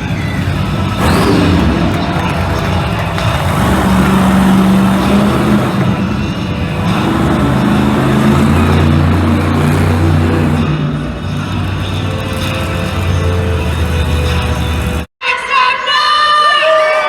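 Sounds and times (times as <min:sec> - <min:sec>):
monster truck engine revving: 0:00.0 - 0:15.1
arena music: 0:00.0 - 0:16.0.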